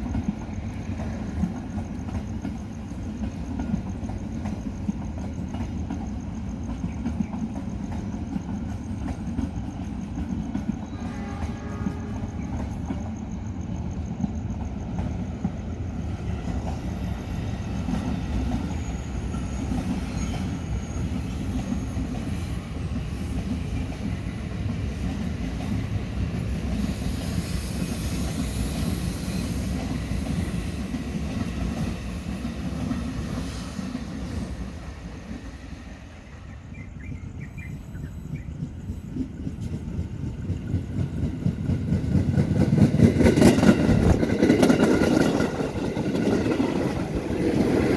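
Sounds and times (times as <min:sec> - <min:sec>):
train wheels rumbling on track: 0:00.0 - 0:47.9.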